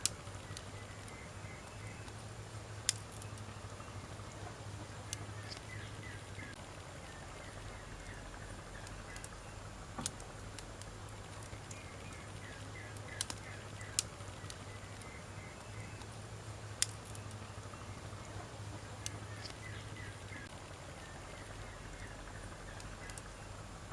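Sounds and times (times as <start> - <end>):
campfire hissing: 0.0 - 23.9
fire pops and crackles: 0.0 - 23.9.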